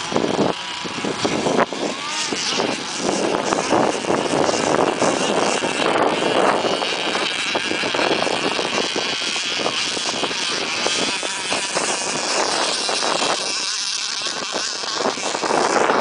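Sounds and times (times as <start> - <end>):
rc boat motor whining: 0.0 - 16.0.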